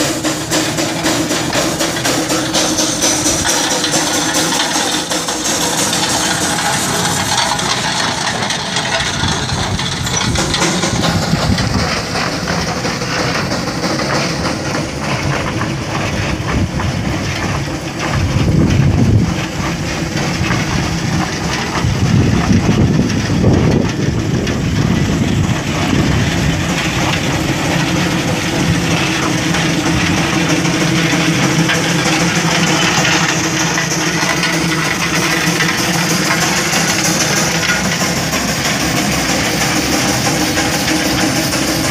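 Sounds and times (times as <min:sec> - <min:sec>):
clatter of gearing: 0:00.0 - 0:41.9
iron wheels on gravel: 0:00.0 - 0:41.9
steam engine chugging: 0:00.0 - 0:41.9.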